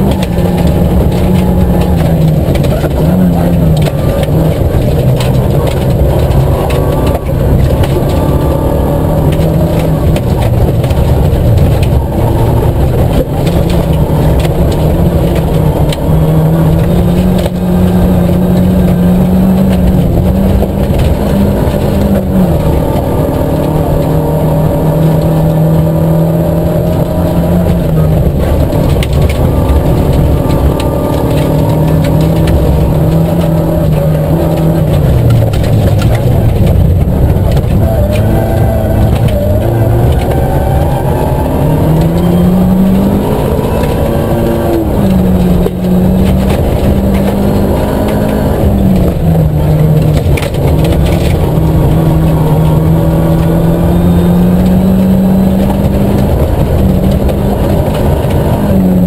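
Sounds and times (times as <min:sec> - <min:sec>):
car engine at high revs: 0:00.0 - 0:59.0
stones clicking against car: 0:00.0 - 0:59.0
tyres on gravel: 0:00.0 - 0:59.0.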